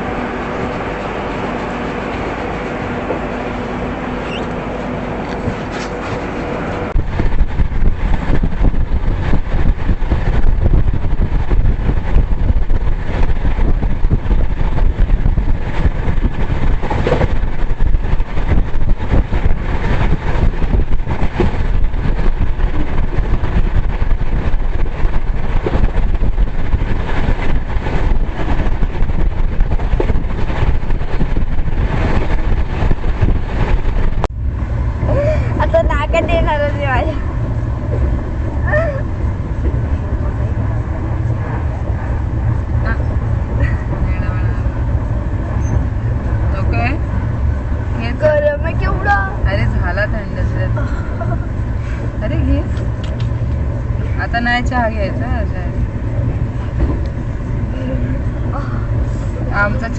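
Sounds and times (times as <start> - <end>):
train rumbling at speed: 0.0 - 59.9
wheels clattering on track: 0.0 - 59.9.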